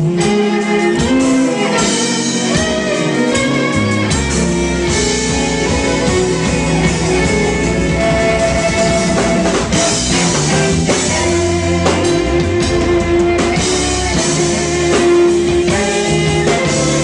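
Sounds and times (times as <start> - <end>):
deep bass line: 0.0 - 17.0
funk band playing: 0.0 - 17.0.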